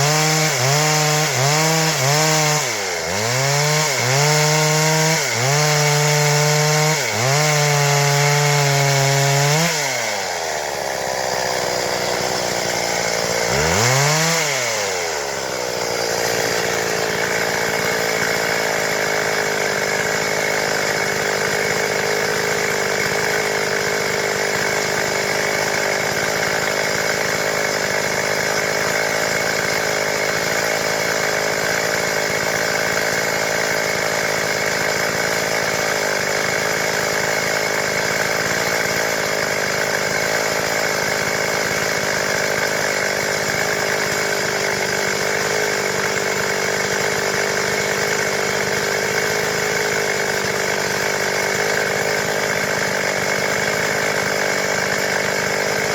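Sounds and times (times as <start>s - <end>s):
chainsaw cutting timber: 0.0s - 55.9s.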